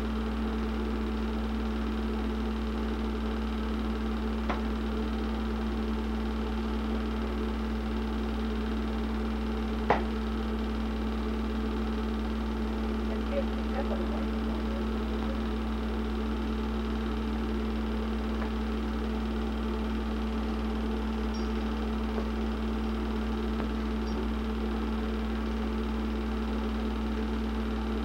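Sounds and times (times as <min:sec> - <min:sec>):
film projector humming: 0:00.0 - 0:28.0.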